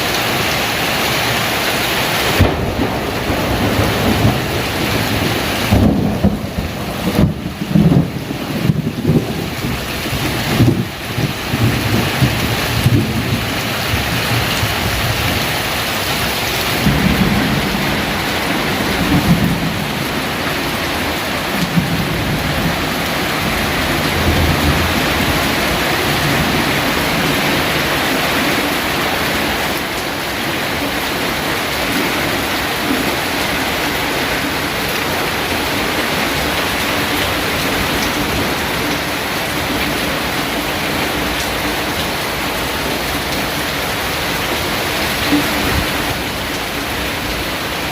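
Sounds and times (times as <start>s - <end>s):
heavy rain pouring: 0.0s - 47.9s
thunder rumbles: 2.2s - 47.9s.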